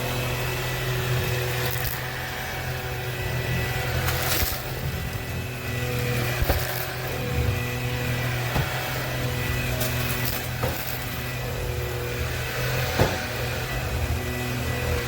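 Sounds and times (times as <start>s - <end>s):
stick vacuum running: 0.0s - 15.0s.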